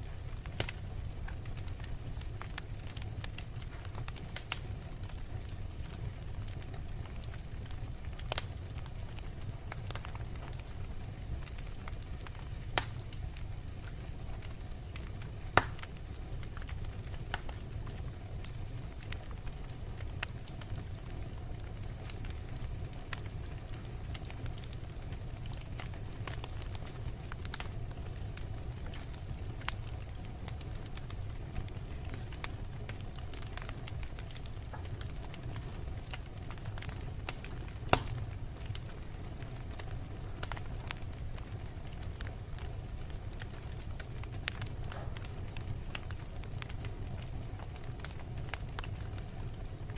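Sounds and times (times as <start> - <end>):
fire crackling and popping: 0.0 - 49.9
fire rumbling: 0.0 - 49.9.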